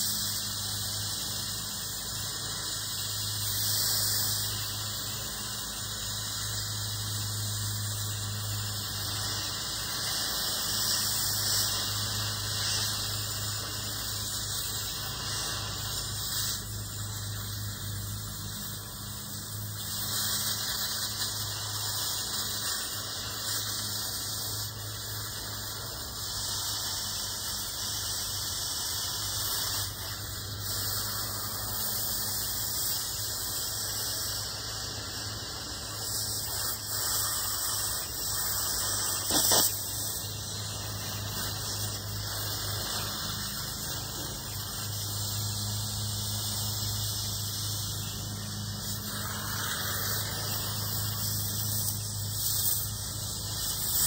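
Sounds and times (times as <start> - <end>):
cutting torch hissing: 0.0 - 54.0.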